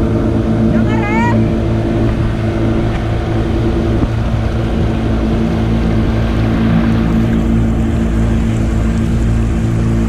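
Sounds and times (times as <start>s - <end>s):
boat motor running: 0.0s - 10.0s
water rushing along hull: 0.0s - 10.0s.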